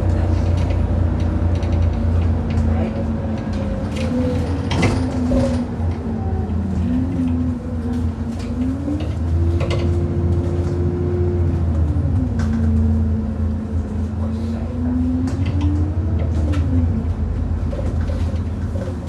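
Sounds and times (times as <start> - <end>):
bus knocking over potholes: 0.0 - 14.2, 15.0 - 19.0
bus engine running: 0.0 - 19.0.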